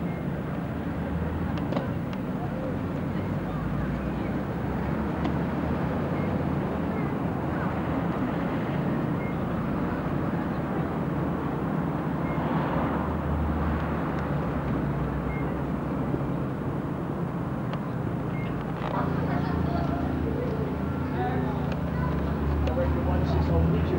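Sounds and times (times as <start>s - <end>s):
vehicle engine droning: 0.0s - 23.9s.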